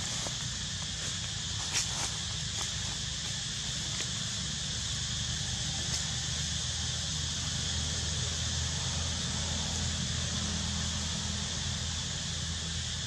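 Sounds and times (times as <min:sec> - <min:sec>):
constant high drone: 0:00.0 - 0:13.0
even hiss: 0:00.0 - 0:13.0.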